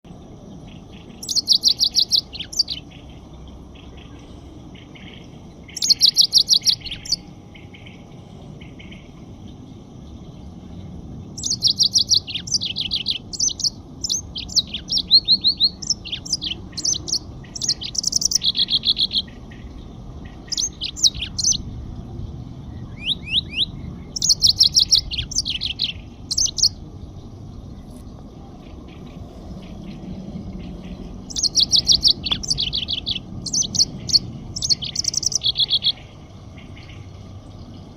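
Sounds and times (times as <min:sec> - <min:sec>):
faint low background noise: 0:00.1 - 0:37.9
songbird trilling and chirping: 0:00.1 - 0:37.9.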